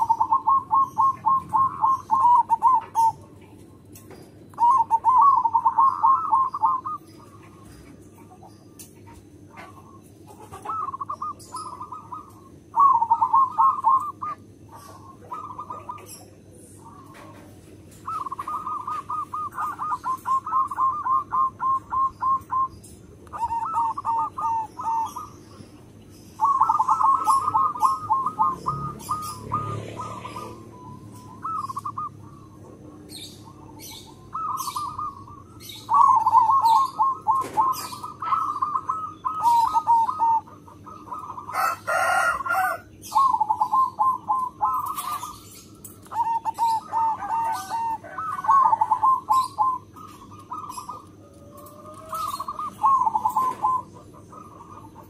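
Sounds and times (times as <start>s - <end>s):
dove cooing: 0.0s - 55.0s
small birds chirping: 0.0s - 55.0s.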